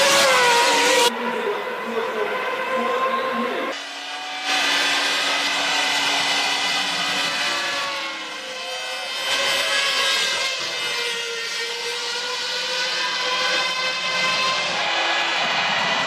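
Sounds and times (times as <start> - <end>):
racing car engines screaming: 0.0 - 16.0.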